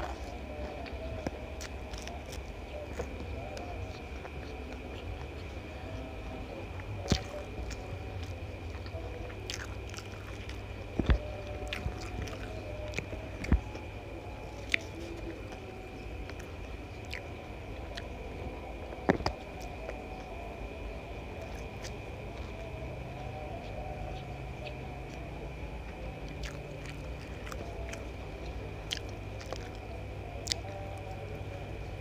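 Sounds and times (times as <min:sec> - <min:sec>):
person chewing food: 0:00.0 - 0:18.2, 0:18.8 - 0:20.3, 0:21.0 - 0:31.7
low hum: 0:00.0 - 0:32.0.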